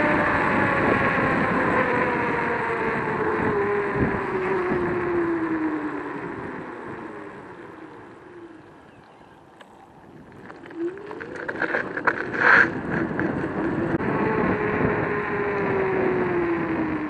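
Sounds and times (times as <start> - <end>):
electric scooter motor whining: 0.0 - 17.0
wind rushing over microphone: 0.0 - 17.0.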